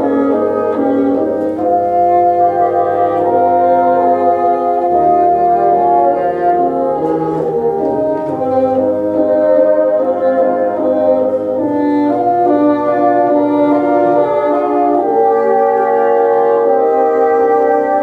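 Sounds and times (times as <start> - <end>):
bassoon ensemble playing: 0.0 - 18.0.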